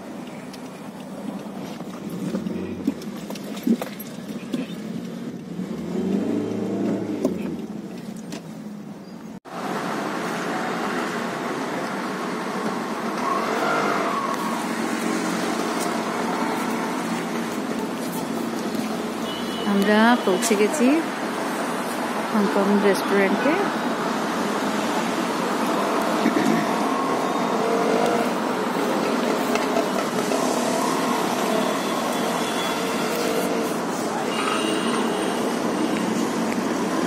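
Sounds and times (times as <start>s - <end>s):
engine and tyre noise: 0.0s - 37.0s.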